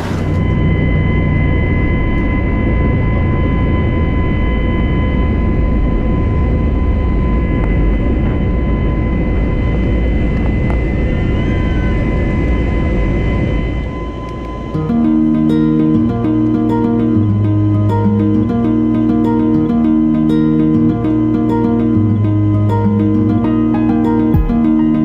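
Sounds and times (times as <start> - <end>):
high whine: 0.0 - 25.0.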